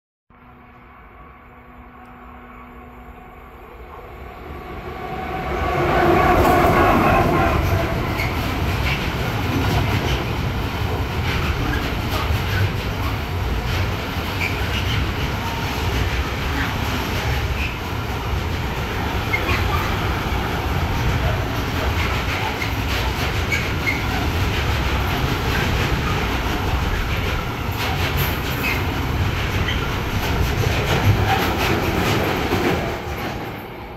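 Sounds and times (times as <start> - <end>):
freight train rumbling past: 0.4 - 33.9.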